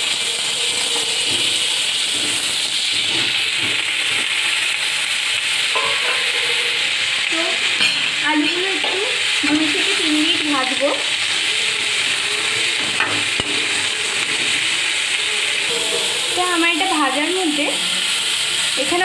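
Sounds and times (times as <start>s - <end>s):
potatoes sizzling in oil: 0.0s - 19.0s.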